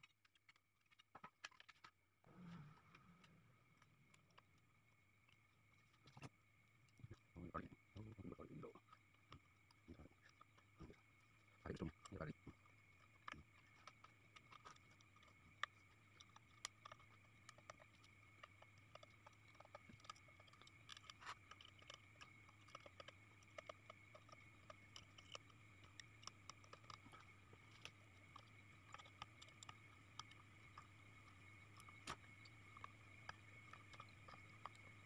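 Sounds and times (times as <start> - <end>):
low steady hum: 2.1 - 35.0.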